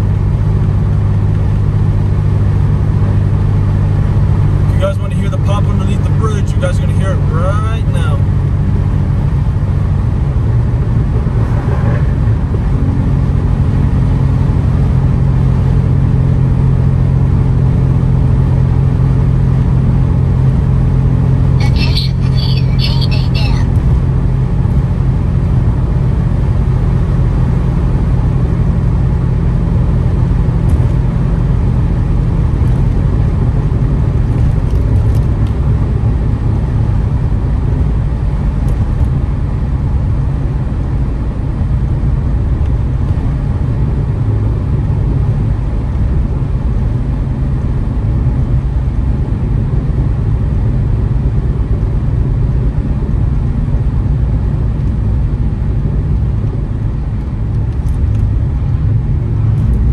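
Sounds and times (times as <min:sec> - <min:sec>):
car exhaust drone: 0:00.0 - 0:59.9
road noise: 0:00.0 - 0:59.9.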